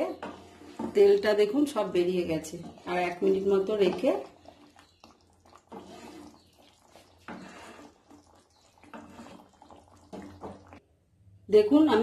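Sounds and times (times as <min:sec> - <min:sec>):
spatula stirring gravy: 0:00.0 - 0:10.8.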